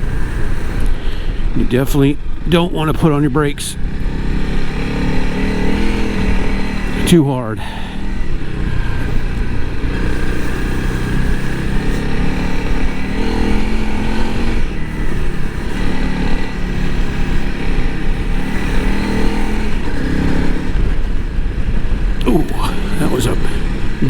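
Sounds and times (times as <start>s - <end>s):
dense low rumble: 0.0s - 24.0s
motorcycle engine running: 0.0s - 24.0s.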